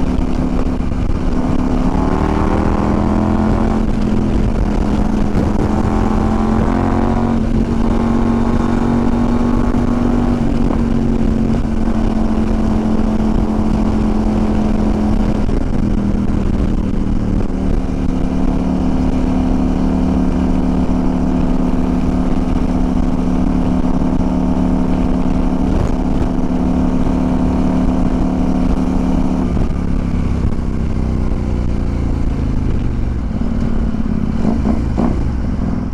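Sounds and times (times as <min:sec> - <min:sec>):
motorcycle engine running: 0:00.0 - 0:35.9
wind rumbling on microphone: 0:00.0 - 0:35.9.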